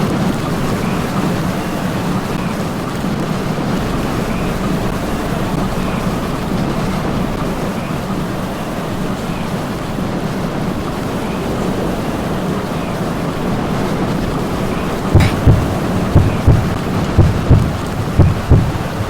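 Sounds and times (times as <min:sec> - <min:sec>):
road and wind noise: 0:00.0 - 0:19.0
low vehicle rumble: 0:02.3 - 0:19.0.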